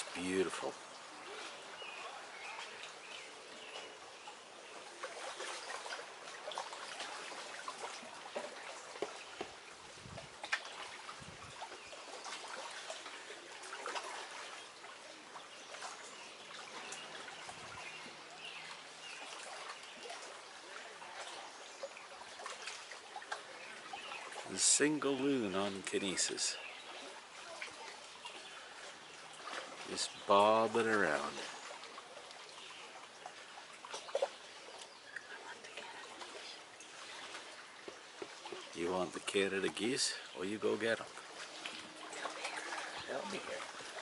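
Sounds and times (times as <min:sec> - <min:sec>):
small splashes: 0:00.0 - 0:44.0
water lapping at shore: 0:00.0 - 0:44.0.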